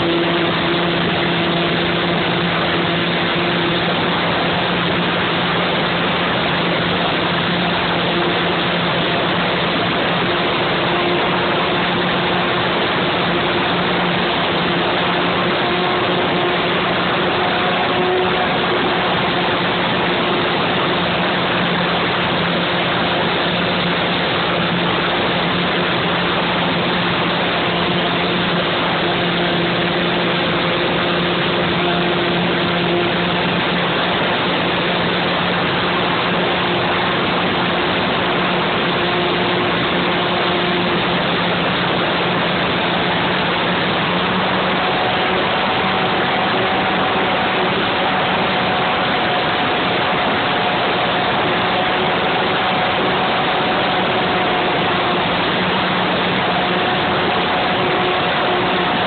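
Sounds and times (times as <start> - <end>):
model plane motor hum: 0.0 - 59.0
rushing air noise: 0.0 - 59.0.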